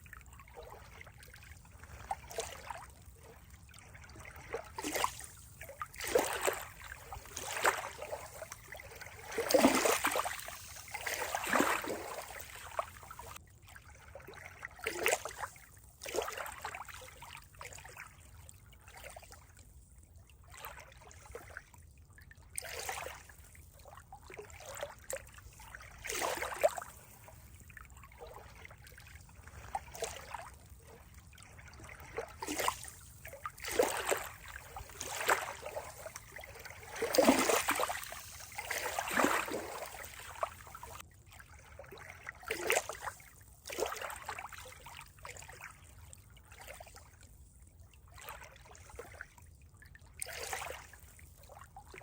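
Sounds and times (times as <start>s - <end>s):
water trickling and splashing: 0.0s - 52.0s.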